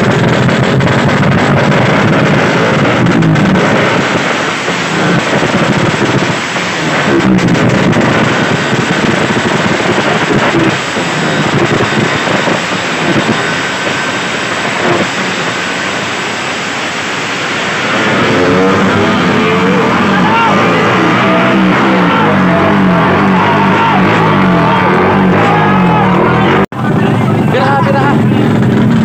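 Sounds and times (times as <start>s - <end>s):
scooter engine revving: 0.0s - 29.0s.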